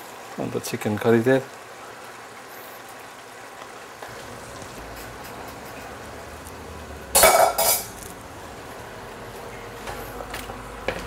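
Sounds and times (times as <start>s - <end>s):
pot boiling and bubbling: 0.0s - 11.0s.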